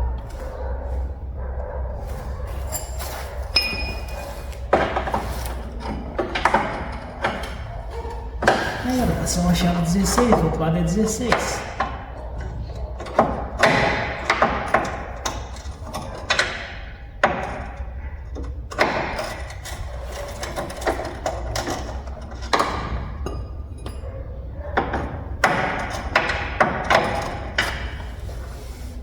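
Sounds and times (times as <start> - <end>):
metal tools knocking on steel: 2.5 - 28.1.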